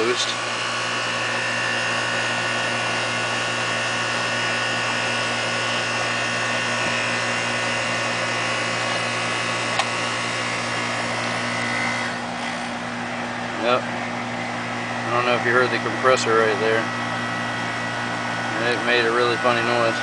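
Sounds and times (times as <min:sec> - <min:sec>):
compressor humming: 0:00.0 - 0:20.0.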